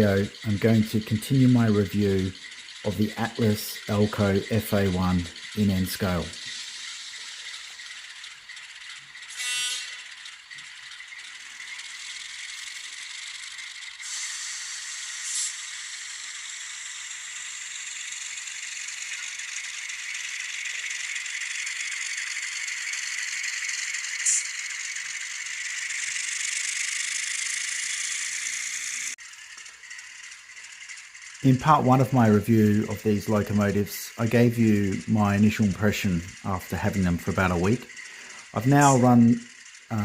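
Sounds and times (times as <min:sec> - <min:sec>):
mechanical rattle: 0:00.0 - 0:40.0
model train diesel sound: 0:00.0 - 0:40.0.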